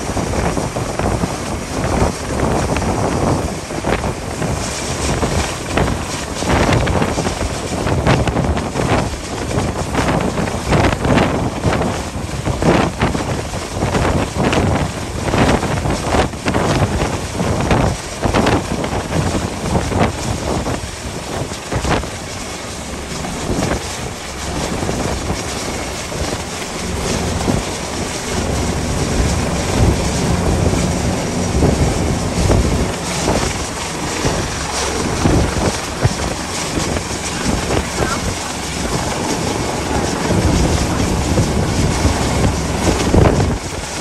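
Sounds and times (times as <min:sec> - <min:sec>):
rushing wind and sea: 0:00.0 - 0:44.0
wind buffeting microphone: 0:00.0 - 0:44.0.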